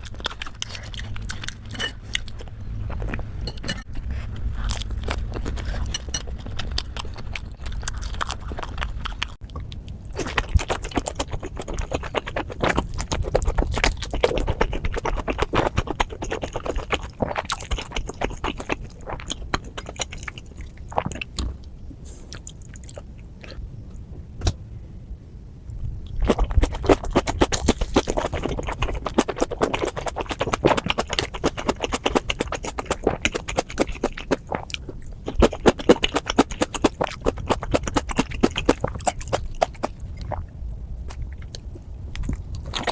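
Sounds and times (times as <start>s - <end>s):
chewing and wet mouth smacking: 0.0s - 21.5s, 22.3s - 23.6s, 26.0s - 42.9s.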